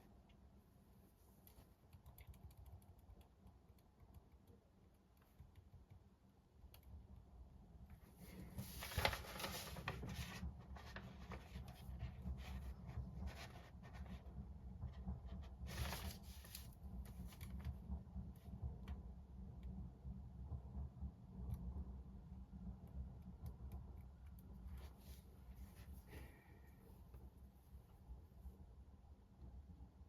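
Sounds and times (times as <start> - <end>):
steady low rumble: 4.6 - 30.0.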